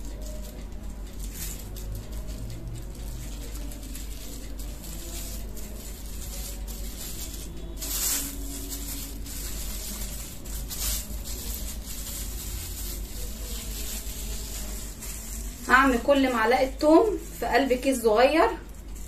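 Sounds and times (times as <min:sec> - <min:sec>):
plastic bags rustling: 0:00.0 - 0:19.0.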